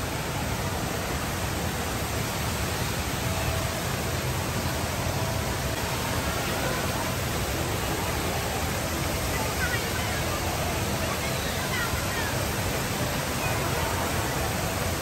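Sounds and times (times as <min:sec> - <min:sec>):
indoor waterfall rushing: 0:00.0 - 0:15.0.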